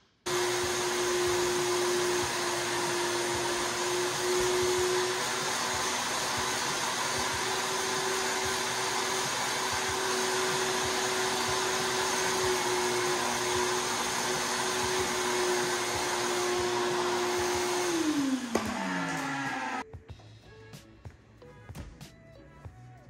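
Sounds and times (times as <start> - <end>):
shop vacuum running: 0.3 - 19.8.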